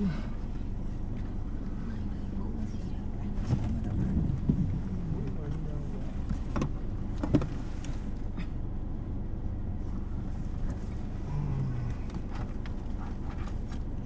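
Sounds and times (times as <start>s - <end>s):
brief low hum: 0.0s - 14.0s
steady low rumble: 0.0s - 14.0s.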